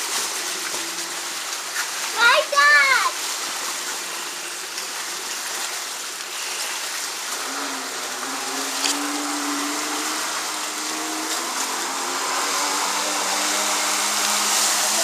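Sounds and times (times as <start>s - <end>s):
jet ski engine drone: 0.0s - 15.0s
water hissing: 0.0s - 15.0s.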